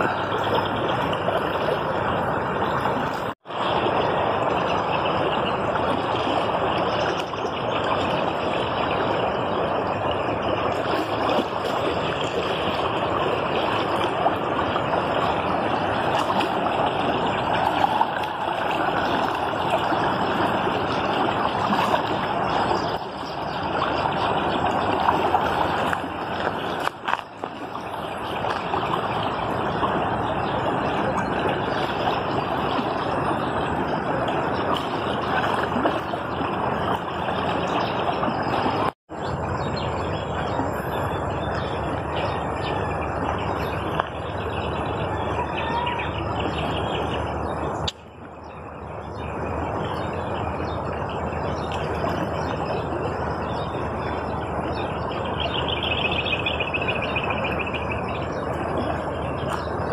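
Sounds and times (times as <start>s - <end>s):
fast-flowing river rushing: 0.0s - 47.9s, 48.7s - 59.9s
birds chirping: 0.0s - 59.9s.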